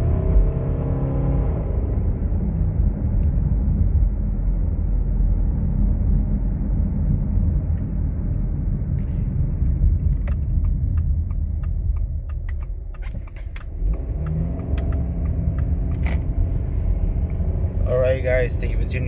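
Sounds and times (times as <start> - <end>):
in-cabin car rumble: 0.0 - 19.0.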